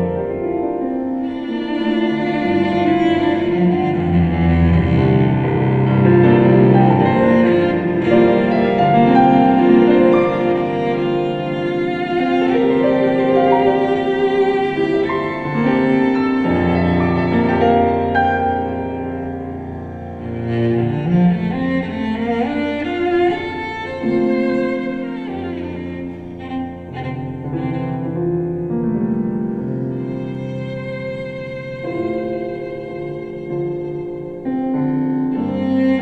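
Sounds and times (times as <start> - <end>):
cello bowed notes: 0.0 - 36.0
piano: 0.0 - 36.0.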